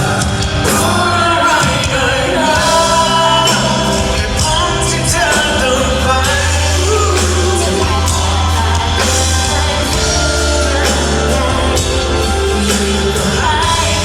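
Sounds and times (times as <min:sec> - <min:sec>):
heavy bass line: 0:00.0 - 0:14.0
pop song through loudspeakers: 0:00.0 - 0:14.0.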